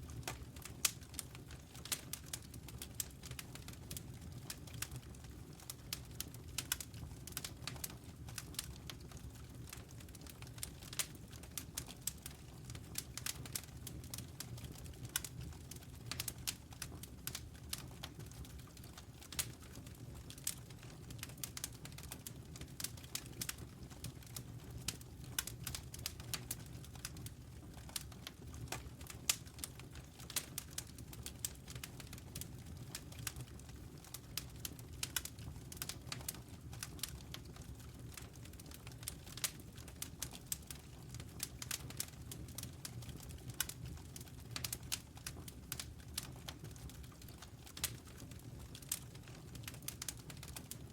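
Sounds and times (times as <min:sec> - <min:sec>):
low rumble of burning fire: 0:00.0 - 0:50.9
wood fire crackling and popping: 0:00.0 - 0:50.9.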